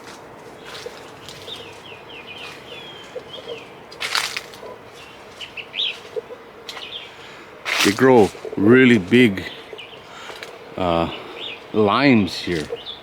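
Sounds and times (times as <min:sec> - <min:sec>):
rustling: 0:00.0 - 0:10.6
bird chirps: 0:00.0 - 0:13.0
songbird singing high notes: 0:00.6 - 0:04.0, 0:04.6 - 0:13.0.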